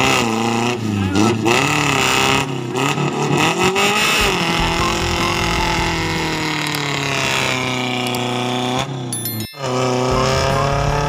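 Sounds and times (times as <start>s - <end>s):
off-road vehicle engine revving: 0.0s - 9.1s, 9.8s - 11.0s.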